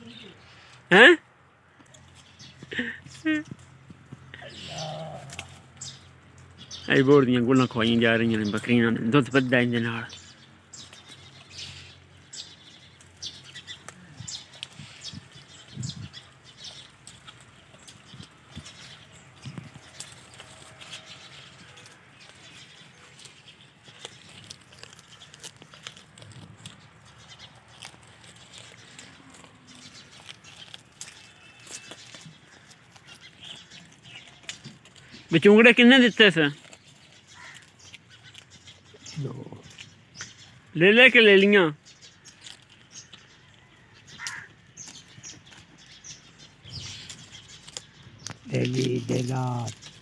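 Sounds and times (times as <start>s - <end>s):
goats feeding clicks and rustles: 1.6s - 50.0s
bird calls: 4.2s - 50.0s.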